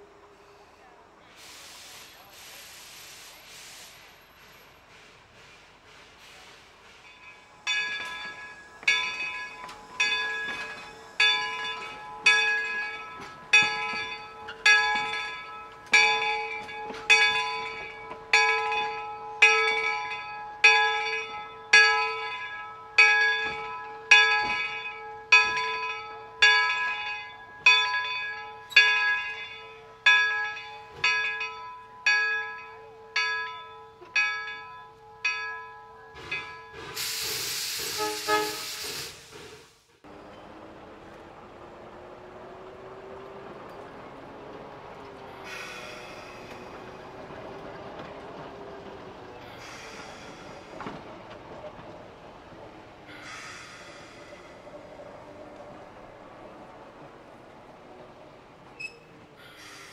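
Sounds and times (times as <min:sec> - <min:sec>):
locomotive bell ringing: 0:07.0 - 0:37.0, 0:40.1 - 0:59.3.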